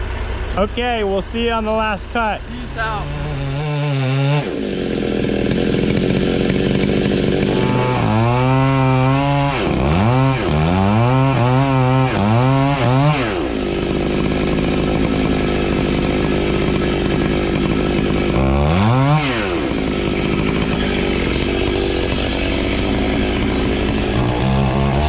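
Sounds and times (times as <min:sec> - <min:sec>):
chainsaw cutting wood: 0:02.4 - 0:25.0.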